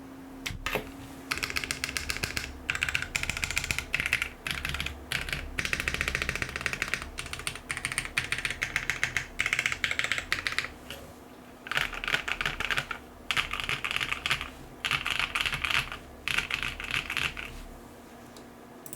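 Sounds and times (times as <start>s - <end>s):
fast mechanical keyboard typing: 0.5s - 10.8s, 11.7s - 17.5s.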